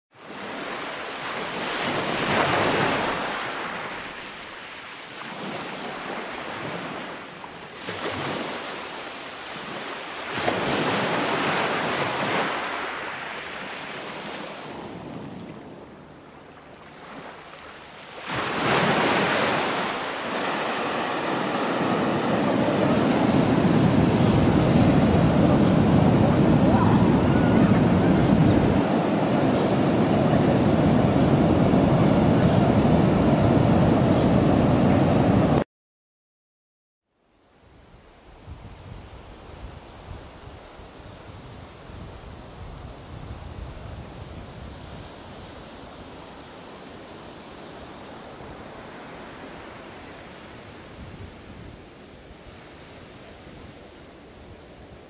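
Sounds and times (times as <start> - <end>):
sea waves breaking on a beach: 0.2 - 35.6, 38.1 - 55.0.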